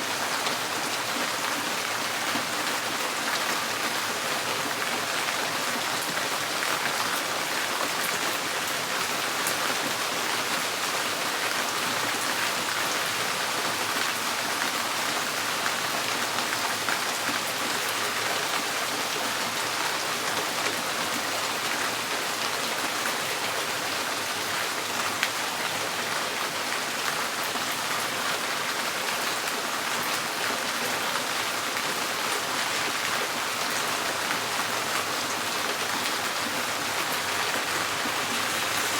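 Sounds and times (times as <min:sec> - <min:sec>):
rain drumming on a tin roof: 0:00.0 - 0:38.9.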